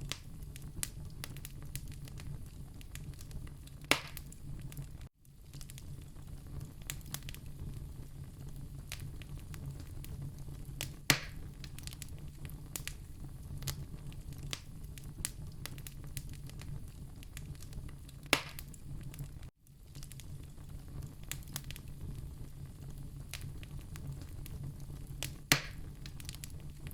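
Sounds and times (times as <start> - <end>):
loud fire pops: 0.0 - 26.9
wood fire crackling: 0.0 - 26.9.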